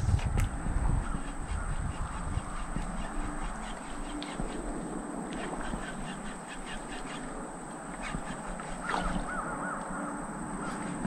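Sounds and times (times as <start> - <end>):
birds calling: 1.0 - 11.0.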